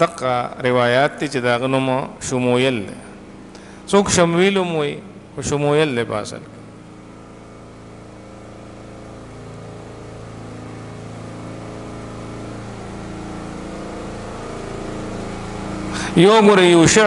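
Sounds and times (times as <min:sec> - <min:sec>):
engine hum: 0:00.0 - 0:17.0.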